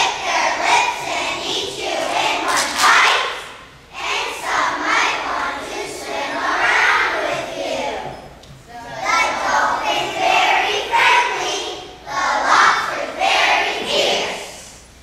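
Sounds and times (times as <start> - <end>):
children singing together: 0.0 - 14.9.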